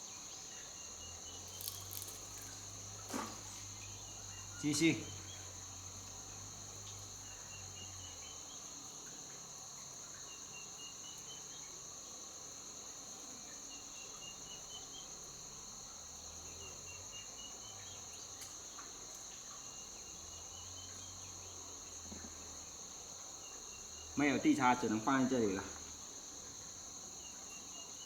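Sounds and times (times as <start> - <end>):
chorus of crickets: 0.0 - 28.0
rapidly pulsed insect call: 0.0 - 28.0.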